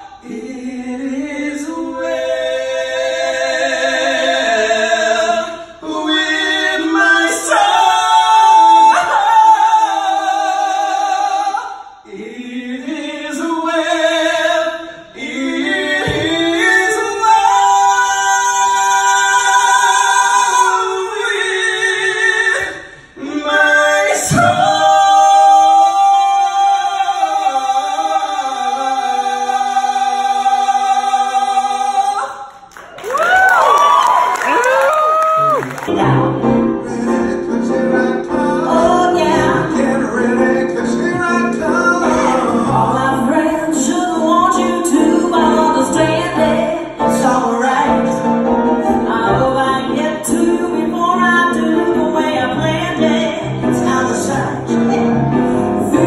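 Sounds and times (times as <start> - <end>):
two men singing in harmony: 0.0 - 32.6, 35.9 - 56.0.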